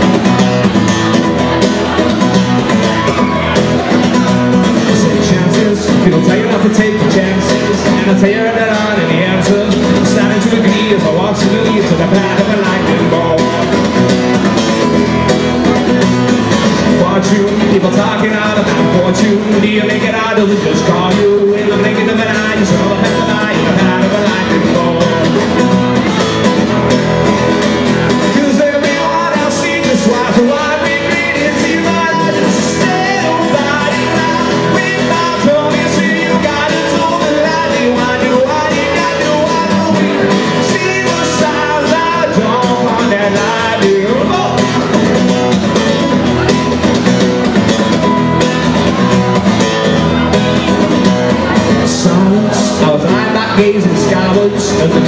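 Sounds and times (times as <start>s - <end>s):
acoustic guitar strumming: 0.0s - 55.0s
man singing: 1.9s - 46.8s, 48.0s - 55.0s.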